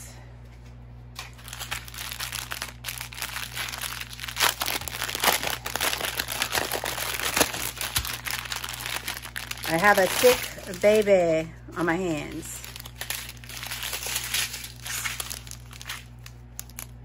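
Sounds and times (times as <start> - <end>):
plastic packaging crinkling: 1.2 - 17.0.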